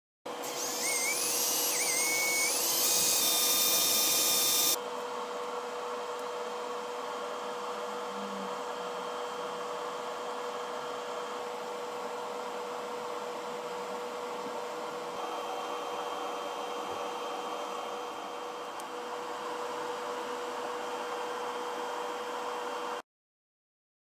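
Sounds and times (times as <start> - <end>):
mechanical hum and hiss: 0.3 - 23.0.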